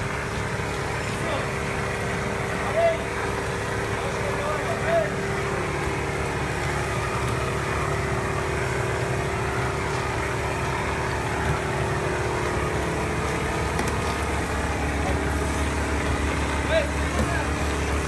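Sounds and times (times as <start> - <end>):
plastering machine motor drone: 0.0 - 18.0.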